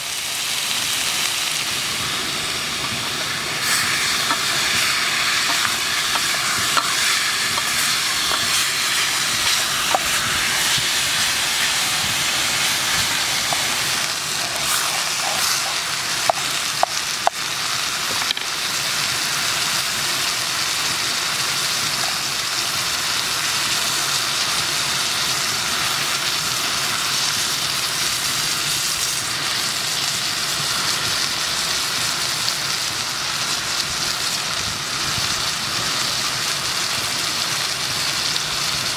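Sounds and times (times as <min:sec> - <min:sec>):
meat sizzling in a pot: 0:00.0 - 0:38.9.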